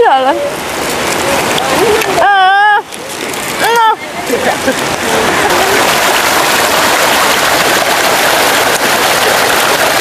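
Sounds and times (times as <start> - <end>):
rain falling on water: 0.0 - 10.0
water pouring into pool: 0.3 - 10.0.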